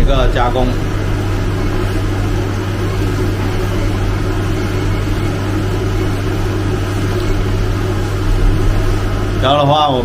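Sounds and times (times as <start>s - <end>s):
milling machine running: 0.0s - 10.0s.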